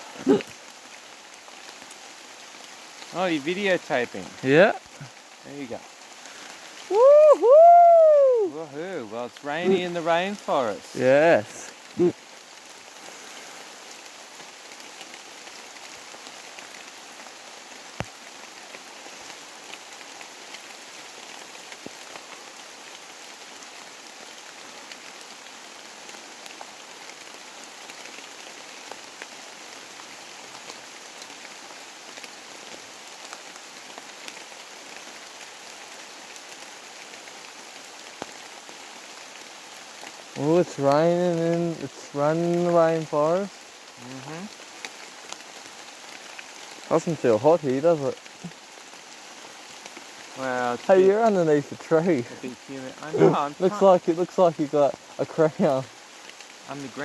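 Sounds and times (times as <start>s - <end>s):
raindrops ticking close by: 0.0s - 57.0s
steady rain falling: 0.0s - 57.0s.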